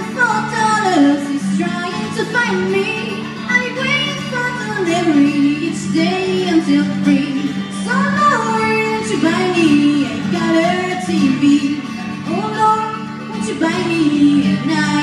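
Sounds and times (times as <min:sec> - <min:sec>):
acoustic guitar: 0:00.0 - 0:15.0
woman singing into a microphone: 0:00.0 - 0:15.0.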